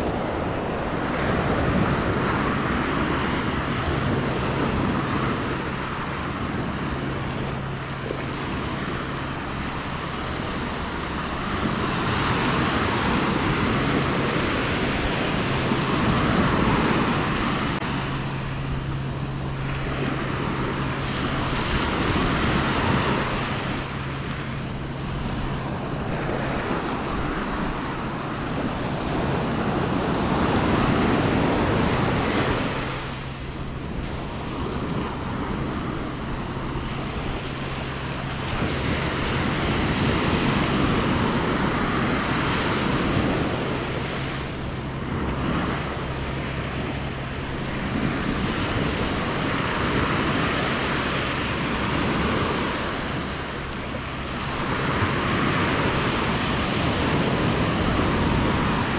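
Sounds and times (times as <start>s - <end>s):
small ocean waves breaking: 0.0s - 58.9s.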